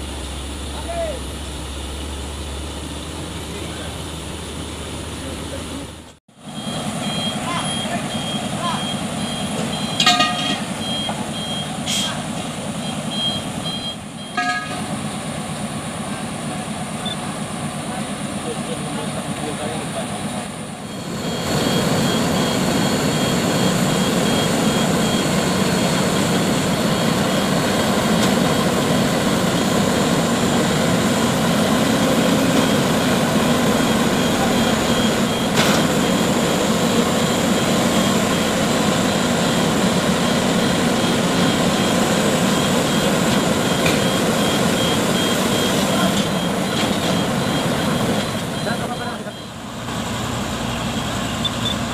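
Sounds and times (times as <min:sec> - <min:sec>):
heavy truck diesel engines roaring: 0:00.0 - 0:51.9.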